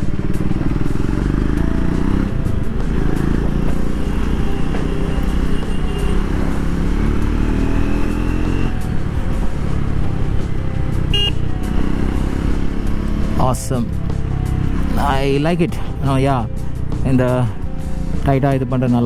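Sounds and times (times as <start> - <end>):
motorcycle engine accelerating: 0.0 - 18.2.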